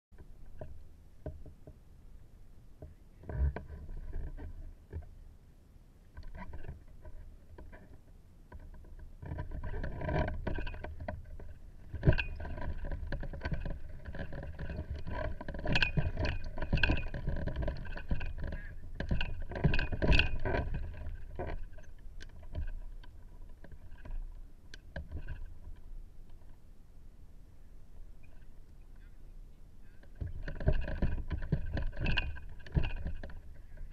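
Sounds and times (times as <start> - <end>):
rustles and knocks: 0.2 - 1.9, 2.7 - 5.2, 6.1 - 26.7, 29.8 - 33.9.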